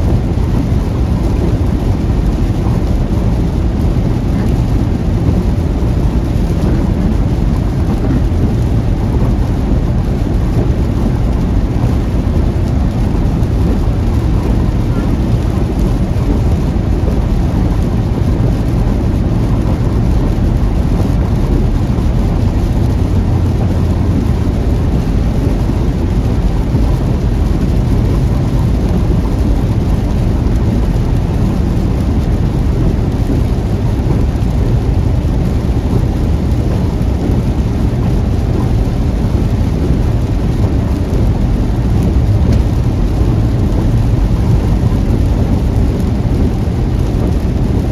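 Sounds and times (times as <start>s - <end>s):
heavy rain: 0.0s - 47.9s
low rumble: 0.0s - 47.9s.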